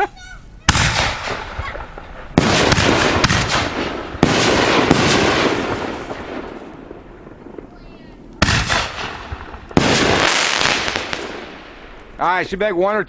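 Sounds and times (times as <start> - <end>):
hissing crackling firework tail: 0.0 - 12.7
firework shell blasts: 0.6 - 12.2.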